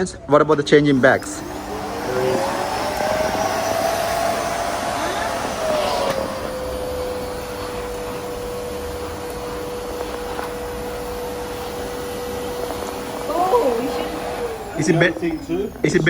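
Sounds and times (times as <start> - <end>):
vacuum cleaner motor whining: 0.0 - 16.0.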